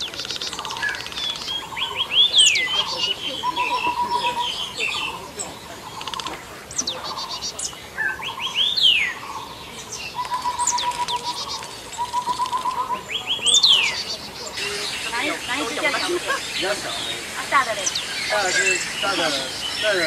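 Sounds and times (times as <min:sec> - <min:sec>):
bird trills: 0:00.0 - 0:20.0
birds whistling downward notes: 0:00.0 - 0:20.0.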